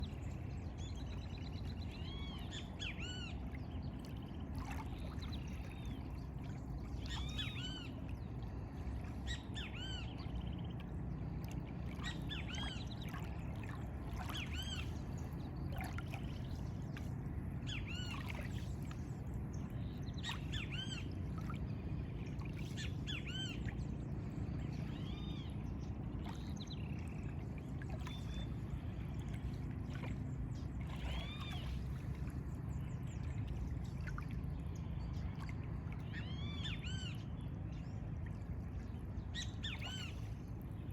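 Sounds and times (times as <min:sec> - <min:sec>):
rushing lagoon water: 0:00.0 - 0:40.9.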